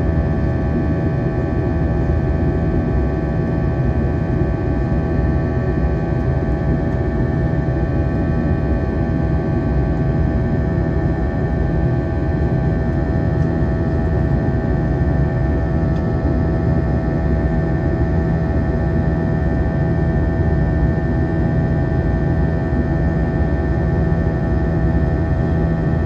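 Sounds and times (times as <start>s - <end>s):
jet engine low rumble: 0.0s - 26.0s.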